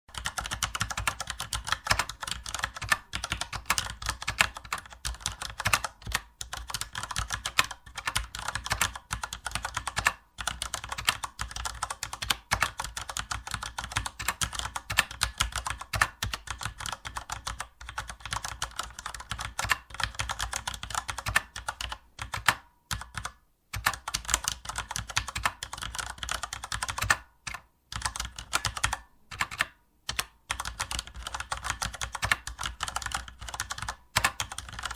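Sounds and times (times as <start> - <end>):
fast typing on keyboard: 0.1 - 34.9.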